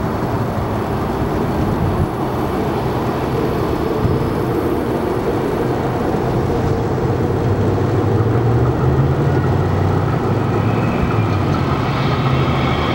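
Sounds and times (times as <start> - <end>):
electric train rumbling past: 0.0 - 12.9.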